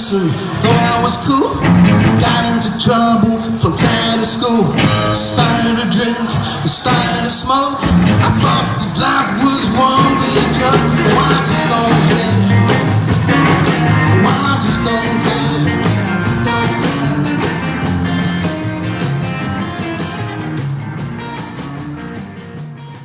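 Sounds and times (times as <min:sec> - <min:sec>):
live rockabilly band: 0:00.0 - 0:23.0.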